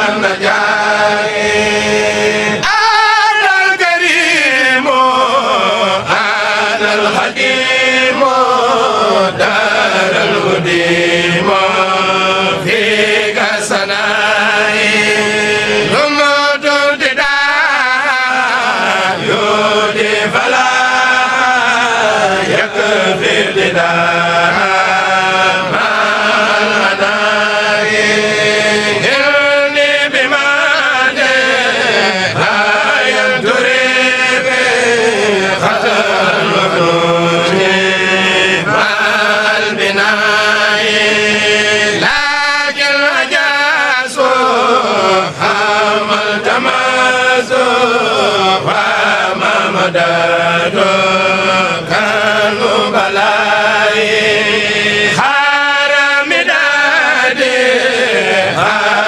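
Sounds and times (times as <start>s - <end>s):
group chanting religious verse: 0.0s - 59.0s.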